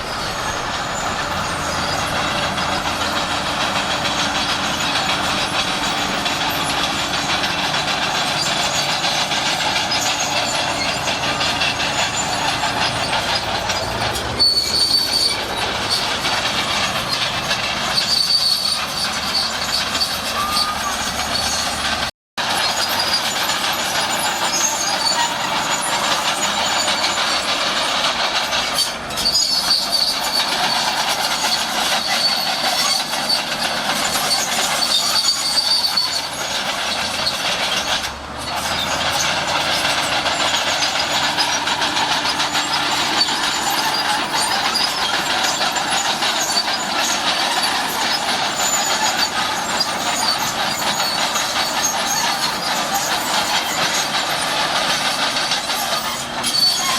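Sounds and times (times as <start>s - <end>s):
diesel engine under load: 0.0s - 56.9s
steel tracks clanking and squealing: 0.0s - 56.9s.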